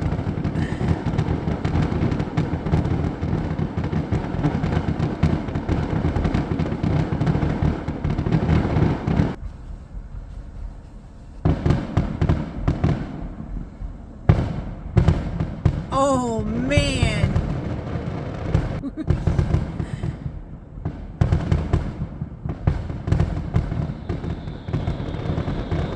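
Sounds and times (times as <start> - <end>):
fireworks booming and crackling: 0.0 - 25.9.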